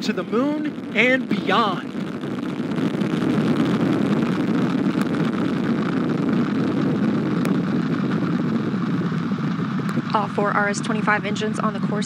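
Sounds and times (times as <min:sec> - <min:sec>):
deep rocket exhaust roar: 0:00.0 - 0:12.0.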